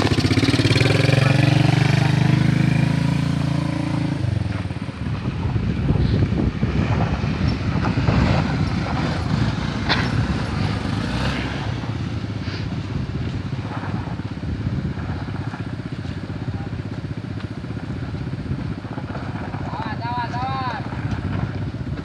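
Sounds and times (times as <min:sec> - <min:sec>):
motorcycle engine riding past: 0:00.0 - 0:22.0
suv engine drone: 0:00.0 - 0:22.0.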